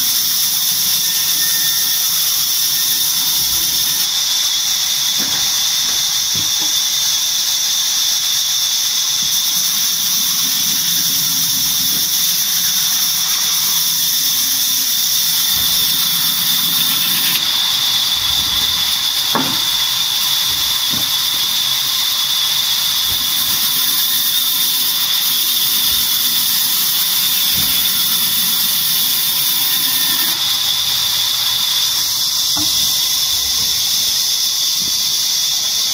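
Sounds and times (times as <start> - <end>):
band saw whining: 0.0 - 35.9.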